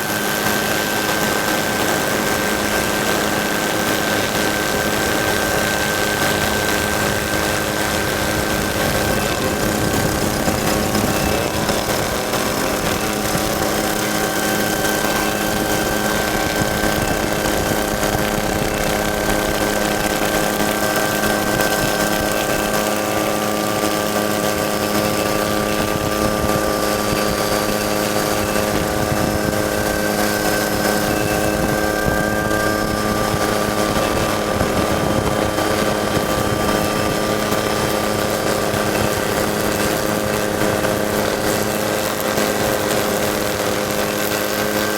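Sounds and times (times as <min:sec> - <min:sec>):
truck engine running steadily: 0:00.0 - 0:44.9.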